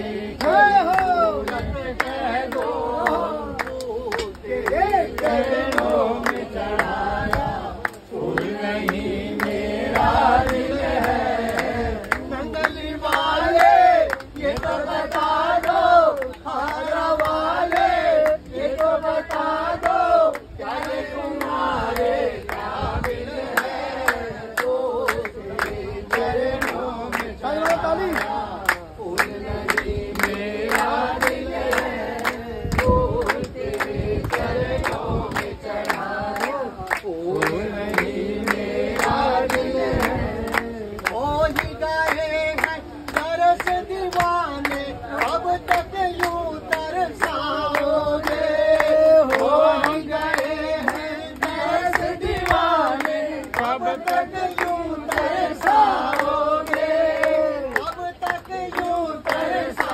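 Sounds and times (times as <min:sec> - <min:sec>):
group singing devotional song: 0:00.0 - 0:59.9
rhythmic hand clapping: 0:00.0 - 0:59.9.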